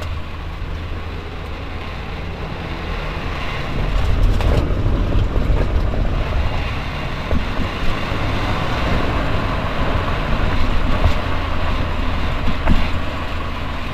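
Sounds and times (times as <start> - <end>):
car road rumble: 0.0 - 13.9.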